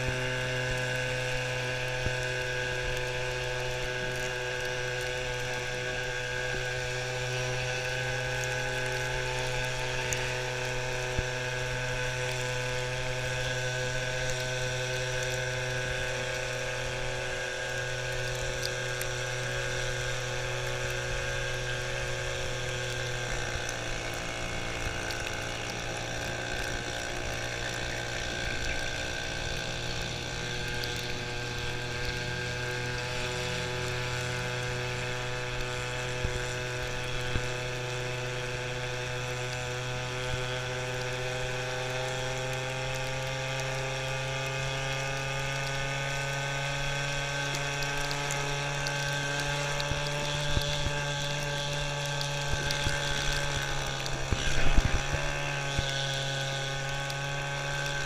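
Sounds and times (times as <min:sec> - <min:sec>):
small scooter motor running: 0:00.0 - 0:58.0.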